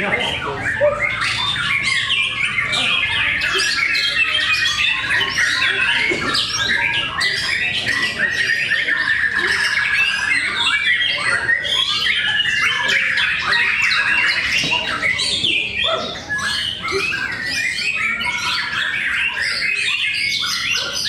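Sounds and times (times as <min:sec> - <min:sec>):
songbirds singing chorus: 0:00.0 - 0:21.0.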